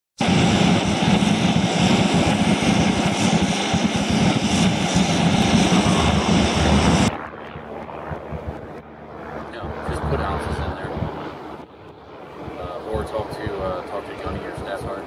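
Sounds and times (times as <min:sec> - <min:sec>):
aircraft engine running: 0:00.2 - 0:15.0.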